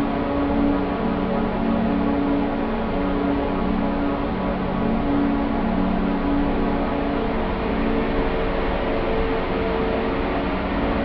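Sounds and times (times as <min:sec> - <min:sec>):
sustained low drone tones: 0:00.0 - 0:11.0.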